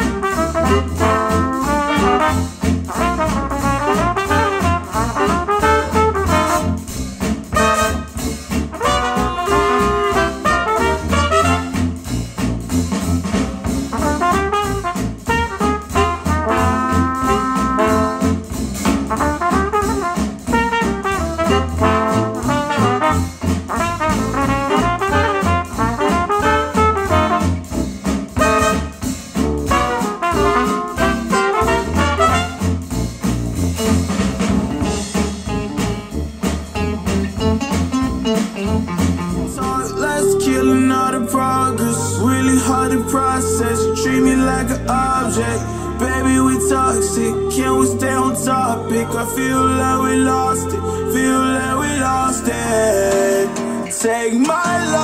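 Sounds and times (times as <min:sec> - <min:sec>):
brass jazz over speakers: 0:00.0 - 0:55.0.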